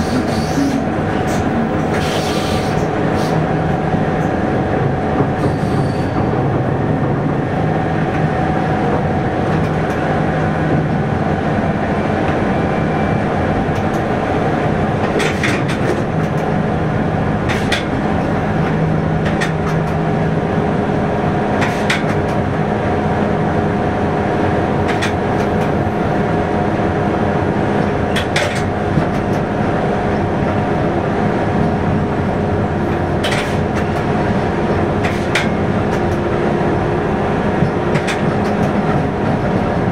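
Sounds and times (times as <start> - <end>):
train engine drone: 0.0 - 39.9.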